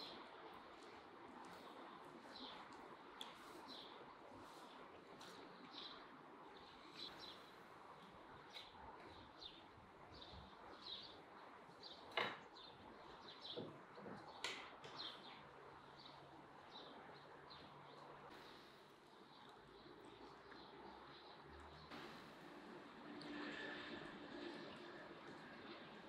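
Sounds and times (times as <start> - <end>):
small birds chirping: 0.0 - 22.7.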